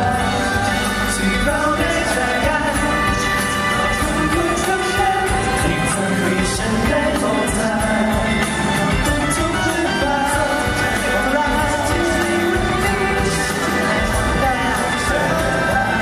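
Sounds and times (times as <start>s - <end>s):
accompaniment with steady beat: 0.0s - 16.0s
male vocal group singing a ballad: 0.0s - 16.0s.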